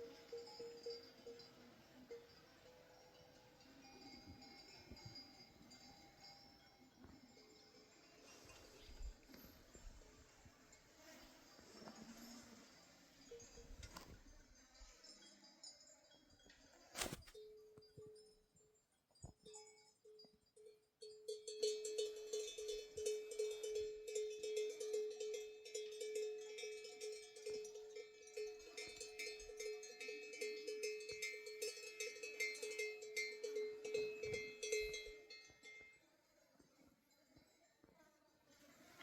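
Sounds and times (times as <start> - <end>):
sheep bells clanking: 0.0 - 36.1.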